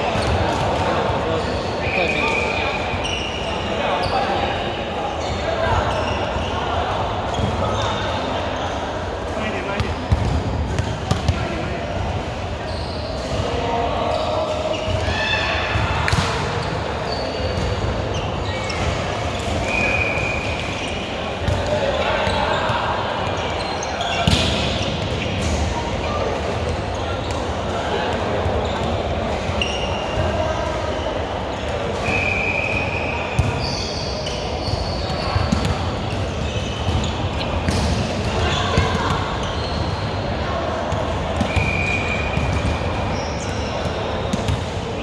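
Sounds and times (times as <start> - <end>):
sneakers squeaking on floor: 0.0 - 6.6, 12.6 - 25.6, 28.2 - 44.8
din of voices in gym: 0.0 - 45.0.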